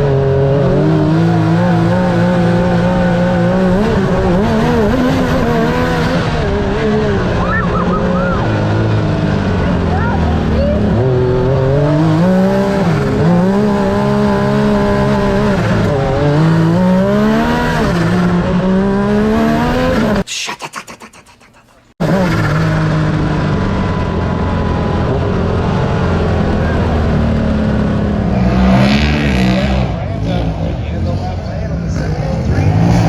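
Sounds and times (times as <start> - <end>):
utility vehicle engine racing: 0.0 - 20.3, 21.9 - 33.0.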